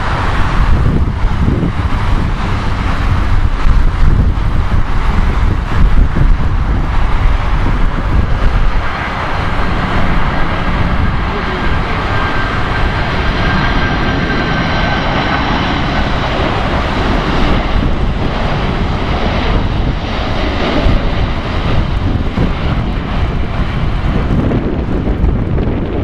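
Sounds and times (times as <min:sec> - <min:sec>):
high fan whine: 0:00.0 - 0:26.0
jet roar with deep rumble: 0:00.0 - 0:26.0.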